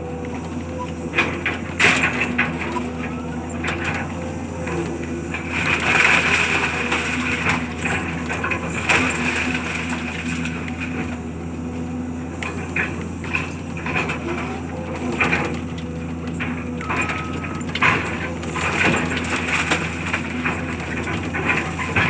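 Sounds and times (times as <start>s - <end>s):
heavy machine engine running: 0.0s - 22.0s
debris crunching and cracking: 0.2s - 22.0s.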